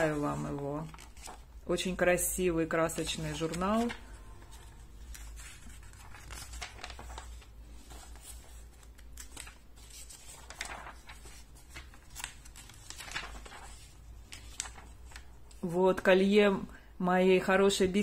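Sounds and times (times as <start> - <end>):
magazine pages rustling: 0.0 - 16.0.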